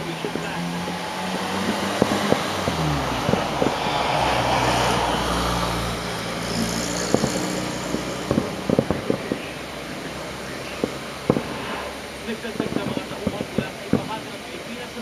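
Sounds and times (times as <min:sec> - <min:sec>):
distant fireworks popping: 0:00.0 - 0:15.0
traffic engine hum: 0:00.0 - 0:15.0
vehicle passing: 0:00.0 - 0:15.0.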